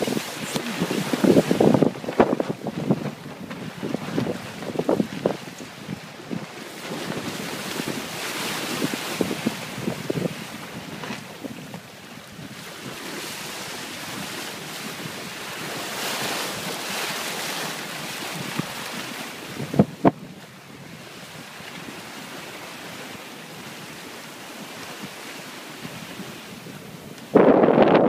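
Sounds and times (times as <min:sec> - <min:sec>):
sea rushing along a hull: 0:00.0 - 0:28.0
wind buffeting microphone: 0:00.0 - 0:28.0.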